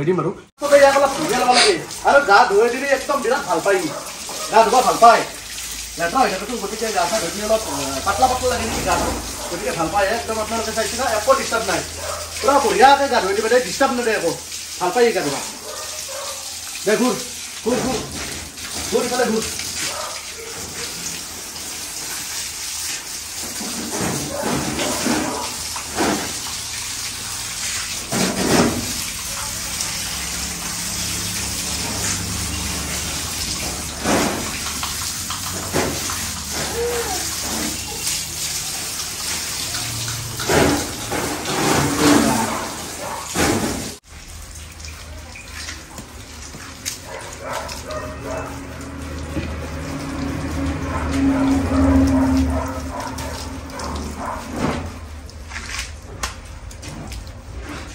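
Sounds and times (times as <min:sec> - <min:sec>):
hose water spraying and splashing: 0:00.6 - 0:57.9
water dripping: 0:00.6 - 0:57.9.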